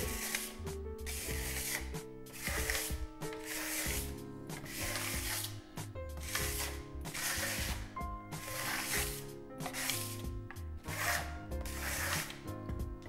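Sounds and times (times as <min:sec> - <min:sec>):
trowel scraping plaster: 0:00.0 - 0:05.6, 0:06.2 - 0:12.5
background music with held notes: 0:00.0 - 0:13.0.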